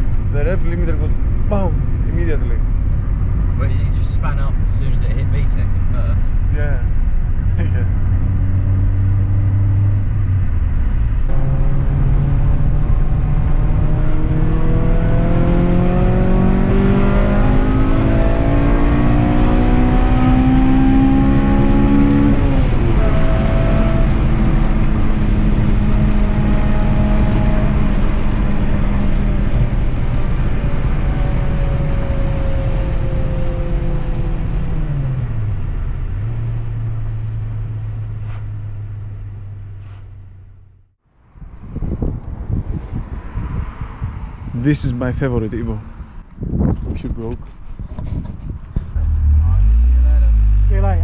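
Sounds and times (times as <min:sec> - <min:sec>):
car engine accelerating: 0:00.0 - 0:44.5, 0:48.6 - 0:51.0.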